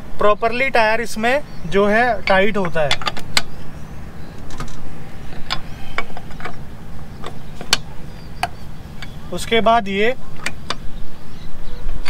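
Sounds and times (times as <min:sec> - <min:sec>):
lug nut ticking and scraping: 0:00.2 - 0:12.0.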